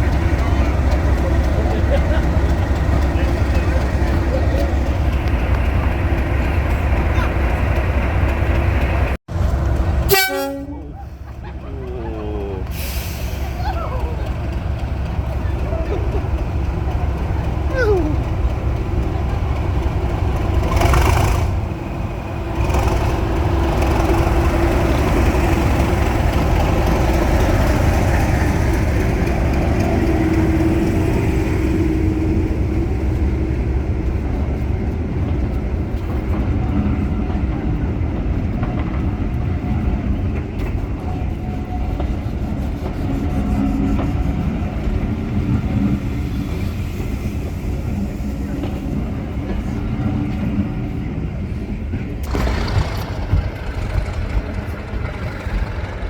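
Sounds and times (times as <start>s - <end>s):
diesel locomotive rumbling: 0.0s - 56.0s.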